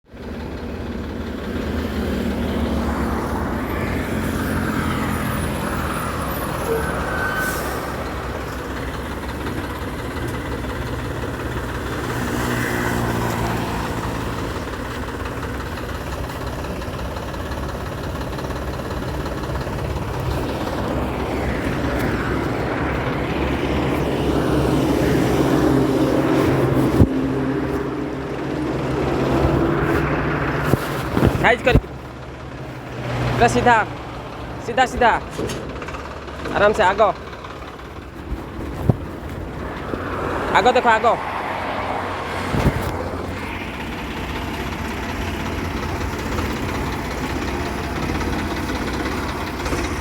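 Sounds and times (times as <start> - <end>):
heavy vehicle engine revving: 0.1 - 50.0.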